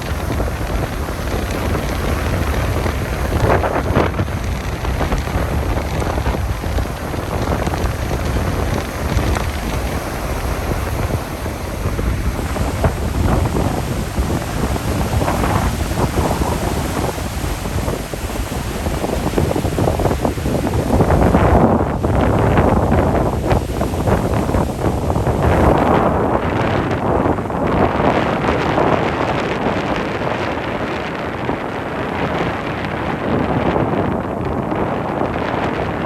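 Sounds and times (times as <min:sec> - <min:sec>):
rough sea surf rumbling: 0:00.0 - 0:36.0
wind buffeting microphone: 0:00.0 - 0:36.0.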